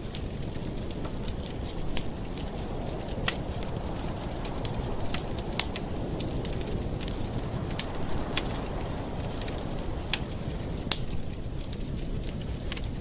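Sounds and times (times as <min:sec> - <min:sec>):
campfire flames rushing: 0:00.0 - 0:13.0
fire crackles and pops: 0:00.0 - 0:13.0.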